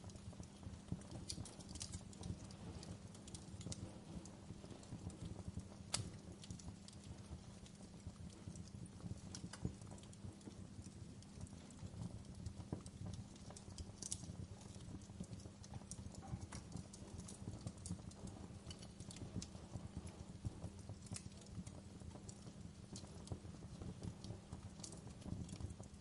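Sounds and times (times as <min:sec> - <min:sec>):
low rumble of burning fire: 0:00.0 - 0:26.0
wood fire crackling and popping: 0:00.0 - 0:26.0.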